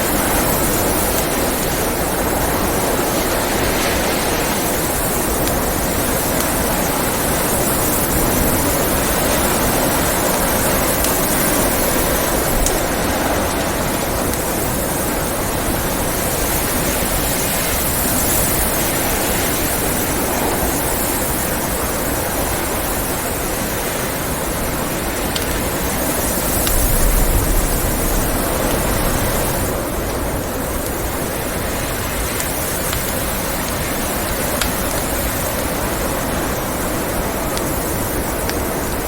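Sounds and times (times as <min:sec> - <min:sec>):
rushing blizzard wind: 0:00.0 - 0:39.0
wood fire crackles: 0:00.0 - 0:39.0.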